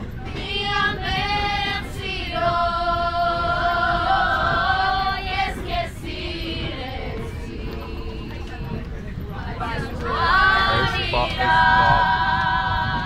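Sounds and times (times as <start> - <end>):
group singing unaccompanied: 0.0 - 13.0.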